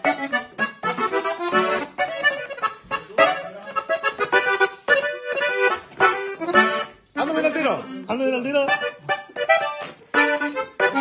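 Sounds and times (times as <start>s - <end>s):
button accordion playing: 0.0s - 11.0s.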